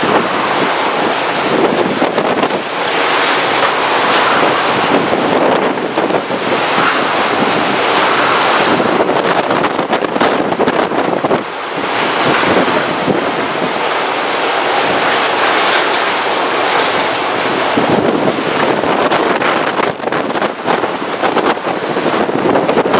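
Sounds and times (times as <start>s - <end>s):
storm wind buffeting microphone: 0.0s - 22.9s.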